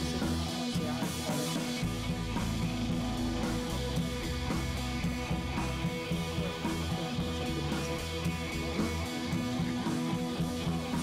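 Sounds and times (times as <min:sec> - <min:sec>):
rock music with guitar and drums: 0:00.0 - 0:11.0.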